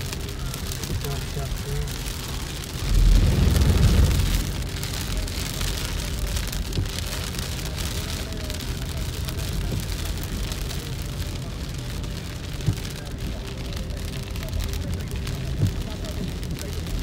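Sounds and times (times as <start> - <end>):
heavy rain on car roof: 0.0 - 17.0
tyres rumbling on wet road: 0.0 - 17.0.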